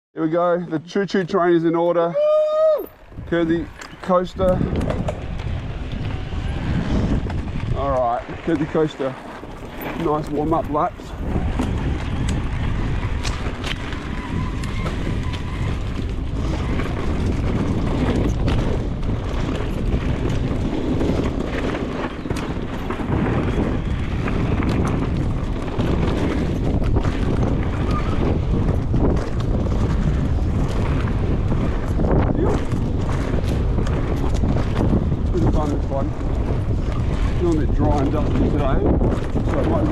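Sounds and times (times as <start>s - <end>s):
wind buffeting microphone: 1.4s - 39.9s
tyres rumbling on dirt: 2.9s - 39.9s
bike knocks and rattles: 3.0s - 39.9s.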